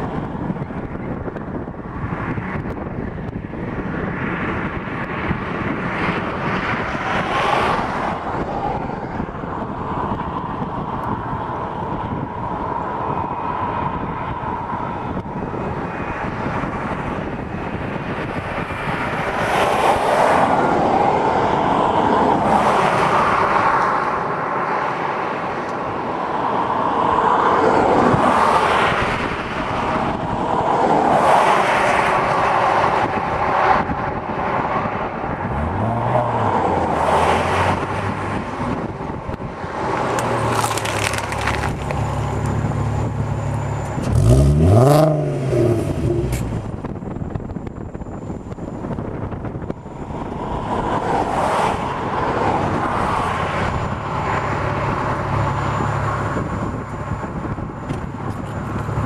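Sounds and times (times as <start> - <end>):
car engine burbling and revving: 0.0 - 59.0
cars passing on highway: 0.0 - 59.0.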